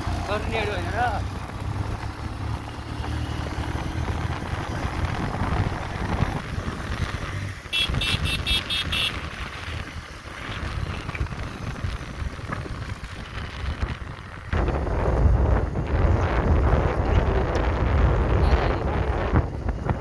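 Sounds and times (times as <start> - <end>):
vehicle rumble on gravel road: 0.0 - 20.0
wind buffeting microphone: 0.0 - 20.0.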